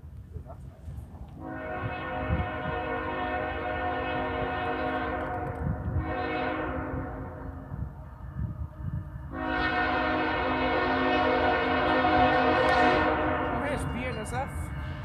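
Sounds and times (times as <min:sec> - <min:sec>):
locomotive air horn blasts: 0:01.4 - 0:13.9.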